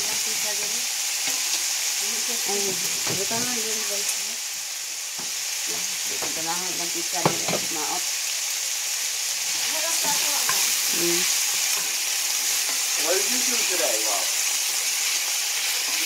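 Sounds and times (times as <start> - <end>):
meat frying in oil sizzling: 0.0 - 16.0.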